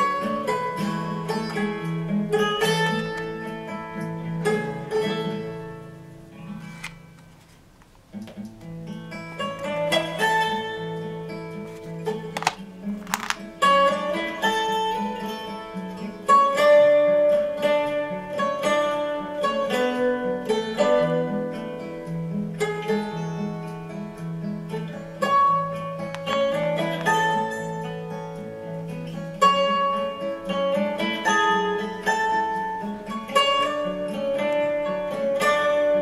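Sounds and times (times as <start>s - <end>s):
plucked-string melody: 0.0s - 7.5s, 8.1s - 36.0s.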